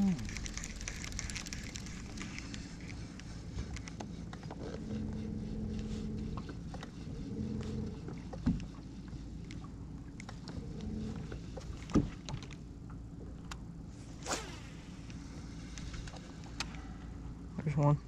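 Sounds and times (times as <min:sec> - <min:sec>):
electric trolling motor humming: 0:00.0 - 0:17.5.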